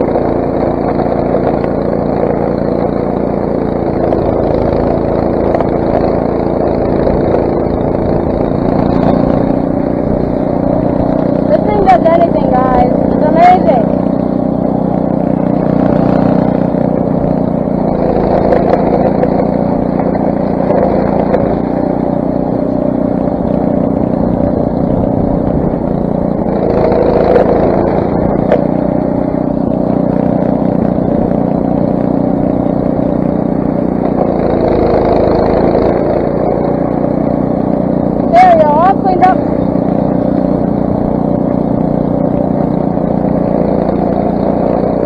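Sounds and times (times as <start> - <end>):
snowblower engine running: 0.0 - 45.0.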